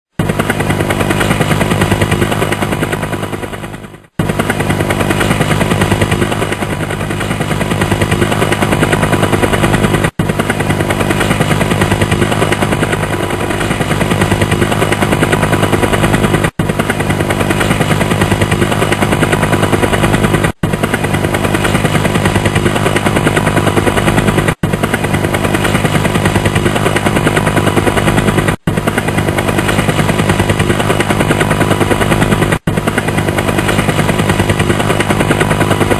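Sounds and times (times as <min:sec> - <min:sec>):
helicopter rotor chop: 0:00.1 - 0:35.9.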